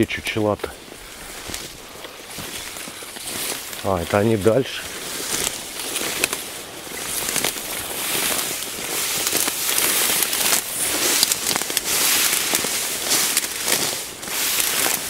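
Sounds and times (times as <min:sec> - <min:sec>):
reeds crackling and rustling: 0:00.0 - 0:15.0.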